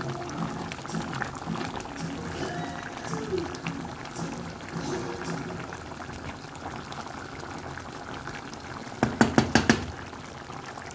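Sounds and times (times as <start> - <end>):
stew bubbling in a pot: 0.0 - 10.9.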